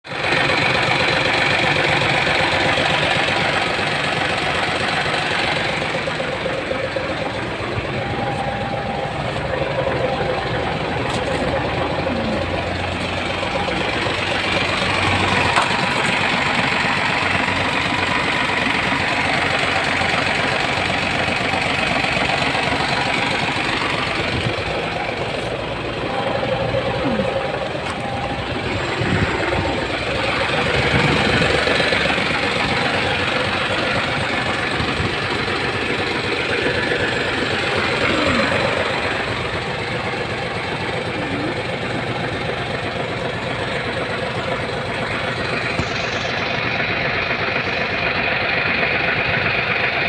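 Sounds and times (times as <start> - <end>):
diesel truck engine idling roughly: 0.0 - 50.0.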